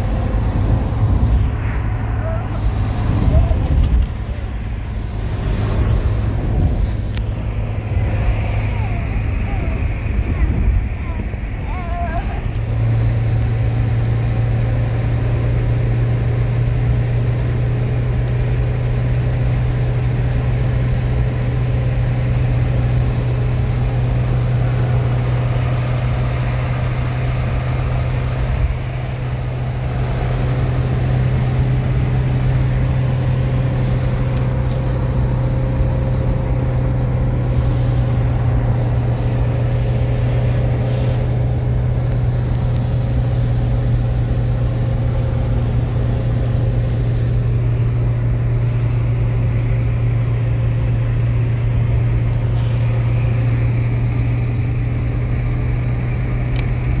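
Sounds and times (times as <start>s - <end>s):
car engine and road drone: 0.0s - 57.0s.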